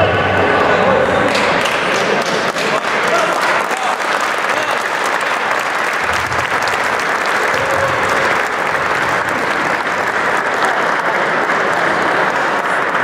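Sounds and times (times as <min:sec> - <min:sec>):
crowd applauding: 0:00.6 - 0:13.0.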